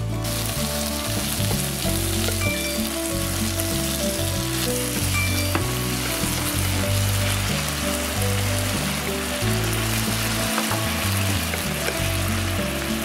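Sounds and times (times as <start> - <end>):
background music with bass: 0.0 - 13.0
food sizzling in frying pan: 0.0 - 13.0.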